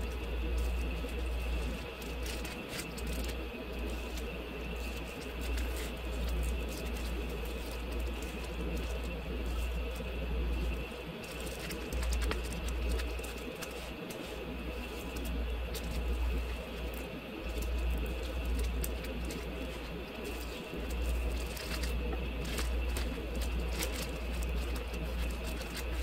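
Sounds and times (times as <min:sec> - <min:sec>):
steady low rumble: 0:00.0 - 0:26.0
vinyl peeling clicks and crackles: 0:00.0 - 0:26.0.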